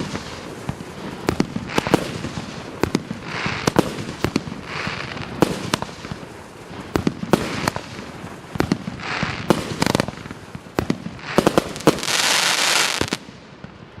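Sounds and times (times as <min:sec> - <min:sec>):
fireworks hissing: 0:00.0 - 0:13.3
fireworks bangs: 0:00.0 - 0:14.0.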